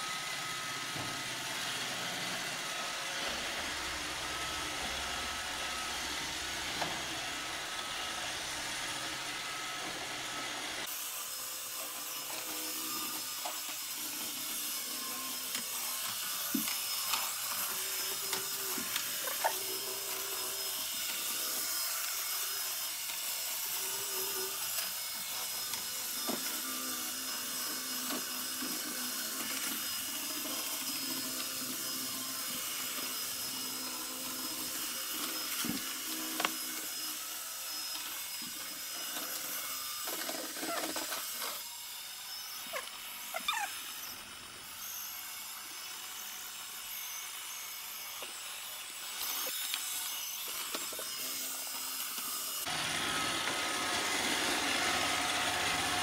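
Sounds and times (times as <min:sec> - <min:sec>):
robot vacuum whirring: 0:00.0 - 0:56.0.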